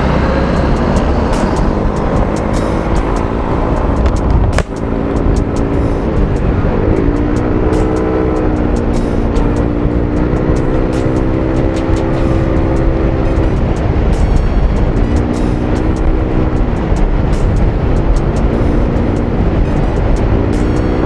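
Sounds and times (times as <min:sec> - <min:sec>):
scooter engine running: 0:00.0 - 0:21.0.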